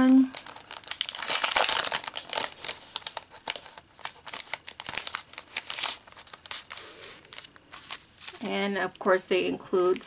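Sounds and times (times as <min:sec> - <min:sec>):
paper crinkling and rustling: 0:00.3 - 0:08.6.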